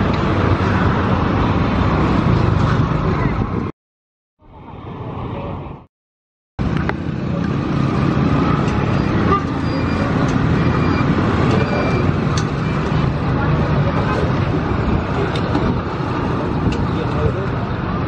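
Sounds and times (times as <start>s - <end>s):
passing cars and motorbikes: 0.0s - 3.7s, 6.6s - 18.0s.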